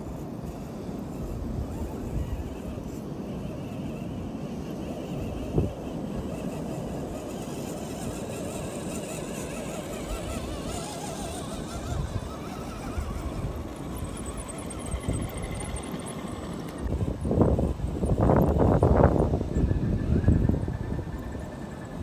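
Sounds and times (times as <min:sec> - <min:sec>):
electric motors whining: 0:00.0 - 0:22.0
rumble of wind and sand: 0:00.0 - 0:22.0.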